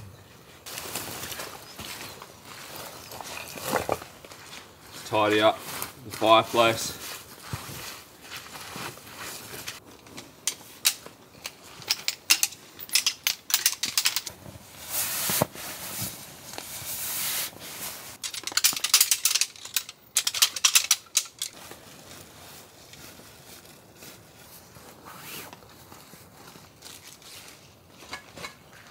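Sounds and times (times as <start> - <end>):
nylon fabric rustling and crackling: 0.6 - 12.8, 13.7 - 18.2, 21.3 - 28.9.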